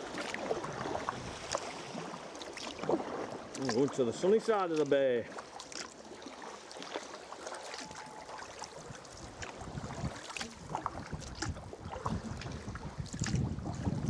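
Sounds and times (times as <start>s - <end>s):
paddle dipping and dripping: 0.0s - 14.0s
small splashes: 0.0s - 14.0s
water lapping against hull: 0.0s - 14.0s.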